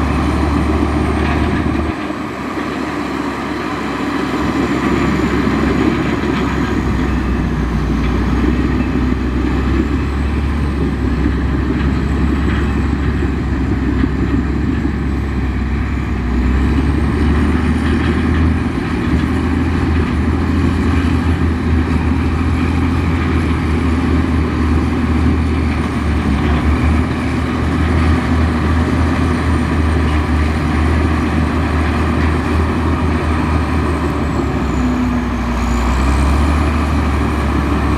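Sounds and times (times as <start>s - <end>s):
heavy diesel engine droning: 0.0s - 37.9s.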